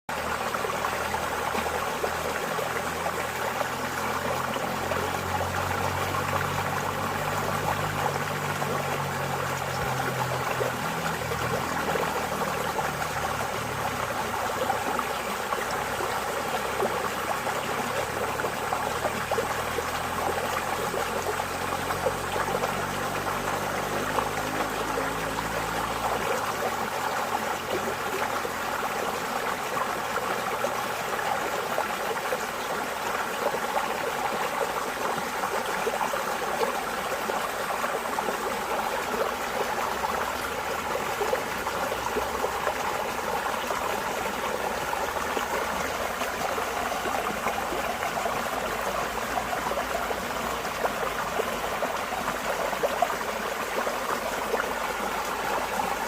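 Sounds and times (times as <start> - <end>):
stream water splashing: 0.1 - 56.0.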